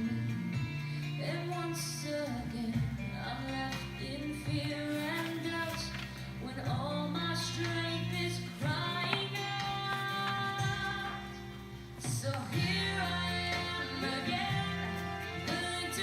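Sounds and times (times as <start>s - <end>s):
pop instrumental backing: 0.0s - 16.0s
woman singing: 0.0s - 16.0s.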